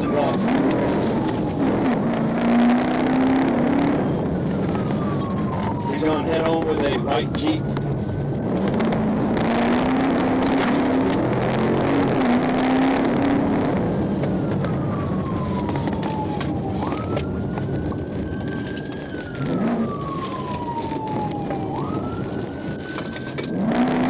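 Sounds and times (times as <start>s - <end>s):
car engine and road noise: 0.0s - 24.0s
police siren wailing: 0.0s - 24.0s.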